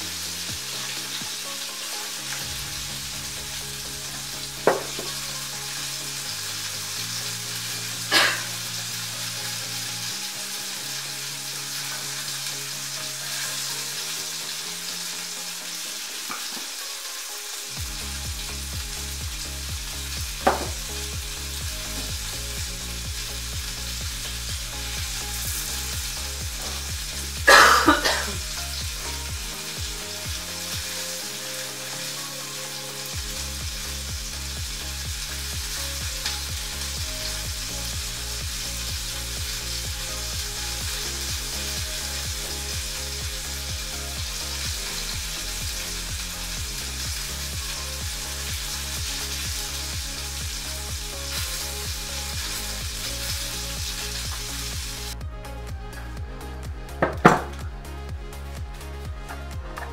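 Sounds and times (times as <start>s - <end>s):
crackling hiss: 0.0s - 55.6s.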